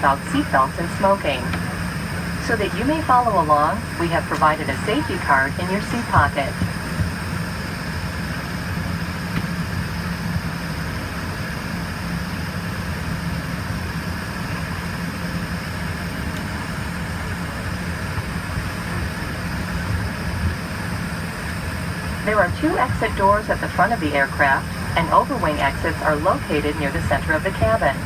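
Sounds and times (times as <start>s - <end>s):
jet cabin drone: 0.0s - 28.0s.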